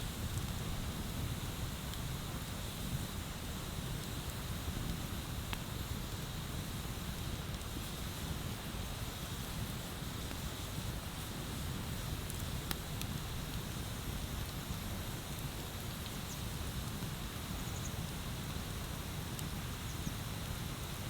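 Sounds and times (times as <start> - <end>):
wood bonfire crackling: 0.0 - 21.0.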